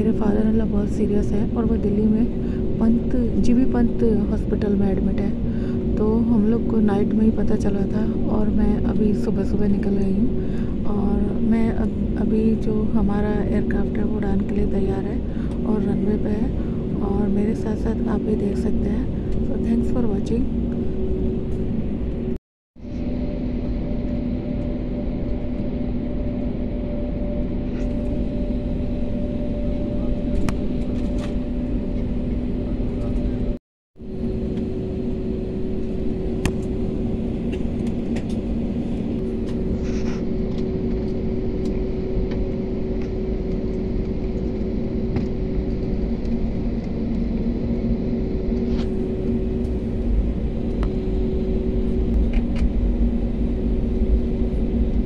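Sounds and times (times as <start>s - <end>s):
jet engines rumbling: 0.0s - 55.0s
low hum of steady tones: 0.0s - 55.0s.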